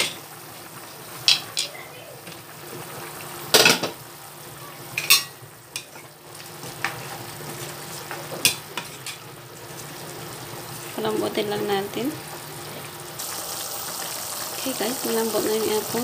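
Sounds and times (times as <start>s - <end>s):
pot bubbling and sizzling: 0.0s - 16.0s.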